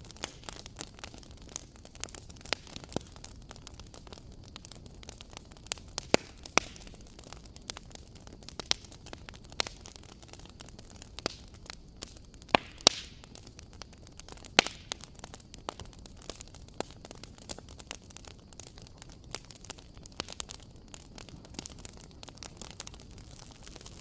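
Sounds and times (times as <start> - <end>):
loud fire pops: 0.0 - 24.0
wood fire crackling: 0.0 - 24.0.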